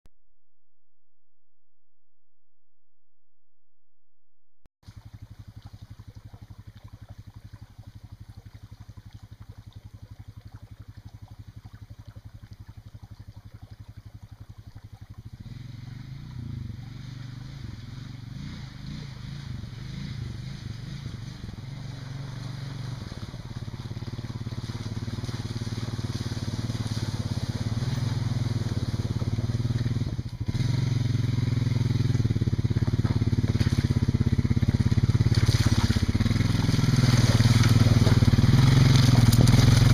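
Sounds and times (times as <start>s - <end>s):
creek running over rocks: 4.8s - 39.9s
atv engine: 4.9s - 39.9s.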